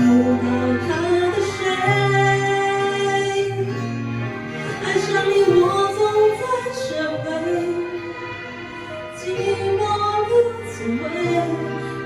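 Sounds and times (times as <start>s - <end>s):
woman singing pop ballad: 0.0s - 3.9s, 4.6s - 12.0s
backing track: 0.0s - 12.0s.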